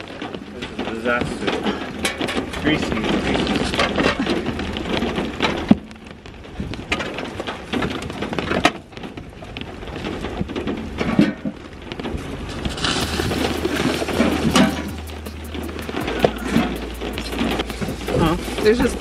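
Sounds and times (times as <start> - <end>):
bags rustling and knocking: 0.0 - 19.0.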